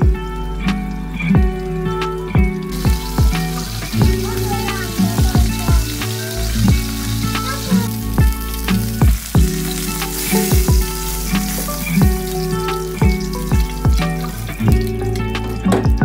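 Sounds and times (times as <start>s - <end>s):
background music: 0.0s - 16.0s
brinjals sizzling in hot oil: 0.1s - 15.7s.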